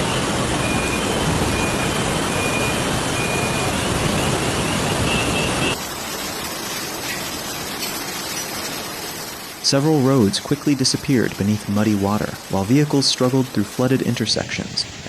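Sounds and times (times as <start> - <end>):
heavy rain downpour: 0.0 - 15.0
traffic on flooded street: 0.0 - 15.0.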